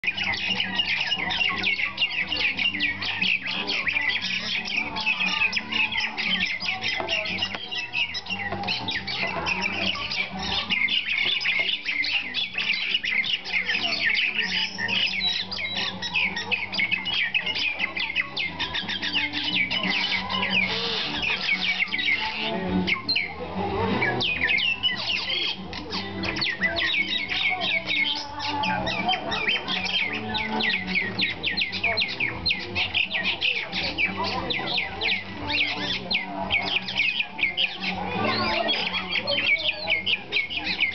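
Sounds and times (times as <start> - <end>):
mynas squawking chatter: 0.0 - 40.9.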